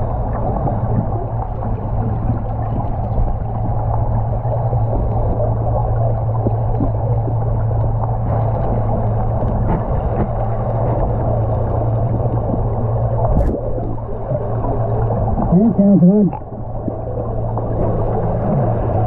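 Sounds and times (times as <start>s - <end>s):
muffled underwater hum: 0.0s - 19.0s.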